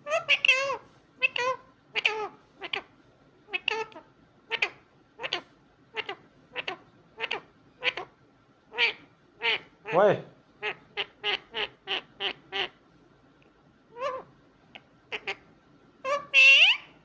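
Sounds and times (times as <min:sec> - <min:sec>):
parakeet calling: 0:00.0 - 0:02.9, 0:03.5 - 0:10.0, 0:10.6 - 0:12.8, 0:13.9 - 0:17.0.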